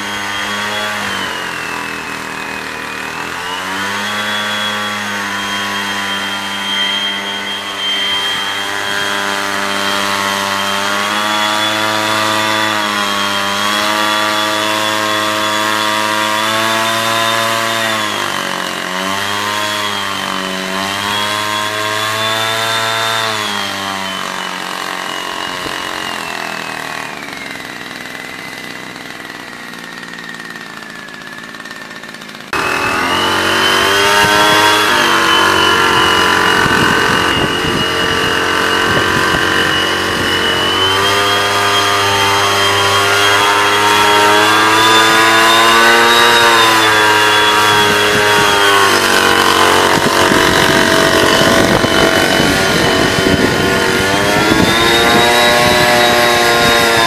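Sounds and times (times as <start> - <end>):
mist blower engine with fan whine: 0.0 - 57.0.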